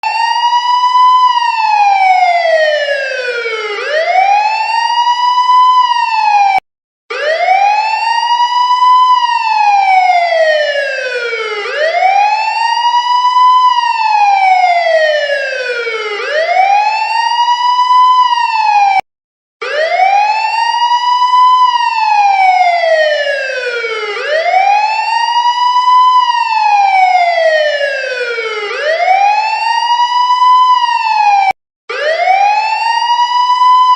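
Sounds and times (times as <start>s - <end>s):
police car siren wailing: 0.0s - 19.0s, 19.6s - 33.9s.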